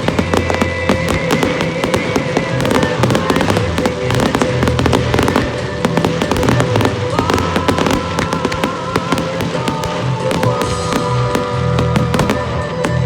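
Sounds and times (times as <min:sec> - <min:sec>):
fireworks bangs and crackles: 0:00.0 - 0:13.0
music with held notes: 0:00.0 - 0:13.0.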